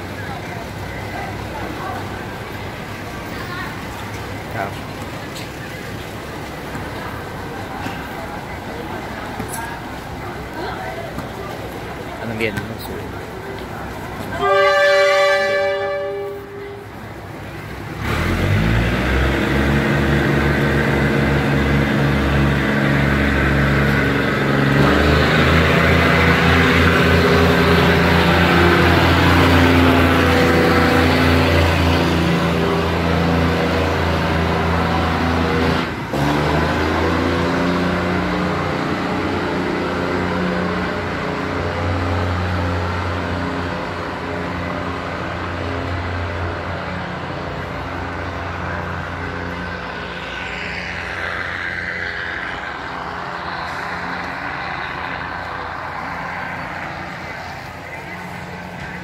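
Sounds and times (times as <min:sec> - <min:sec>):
diesel train engine droning: 0:00.0 - 0:59.0.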